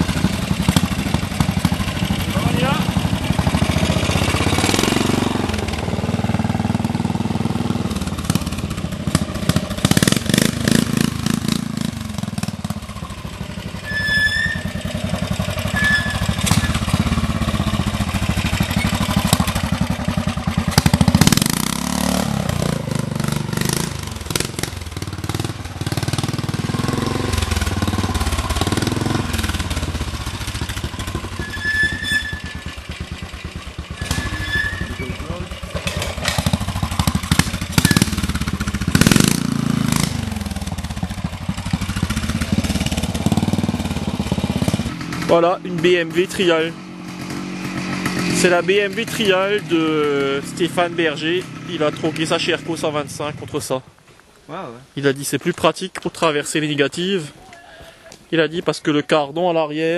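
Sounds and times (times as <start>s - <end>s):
motorcycle engines revving: 0.0s - 53.7s.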